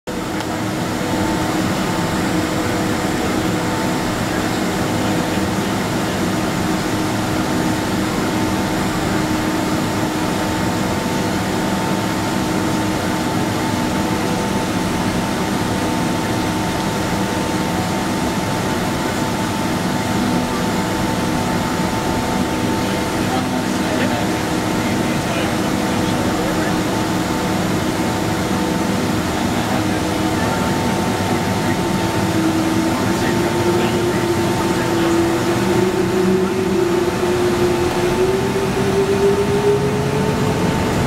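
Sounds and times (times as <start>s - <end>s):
jet engines idling inside cabin: 0.1s - 41.0s.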